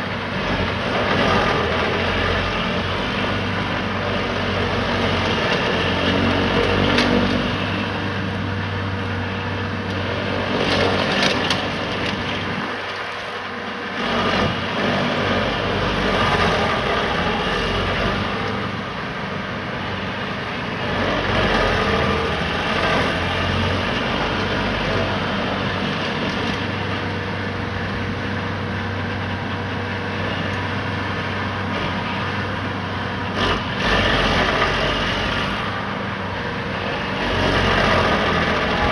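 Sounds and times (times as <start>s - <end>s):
cutter wheel grinding wood: 0.0s - 38.9s
stump grinder engine drone: 0.0s - 38.9s.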